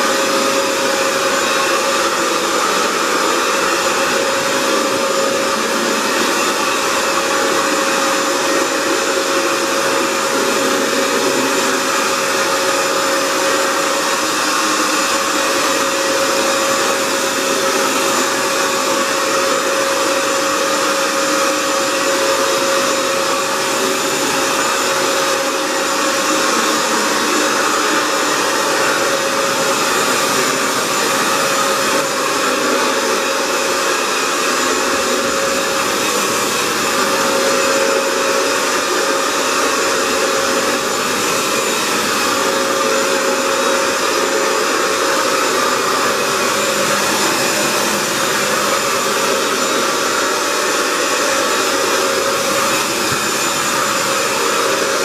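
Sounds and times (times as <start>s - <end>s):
floor cleaner motor whine: 0.0s - 55.0s.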